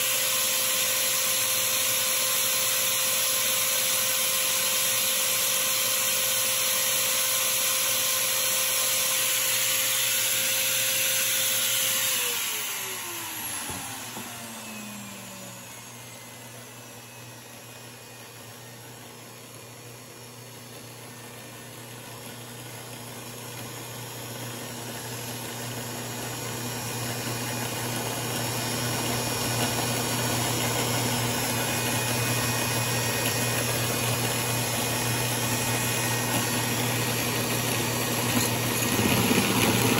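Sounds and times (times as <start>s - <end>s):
power drill motor whining: 0.0s - 39.9s.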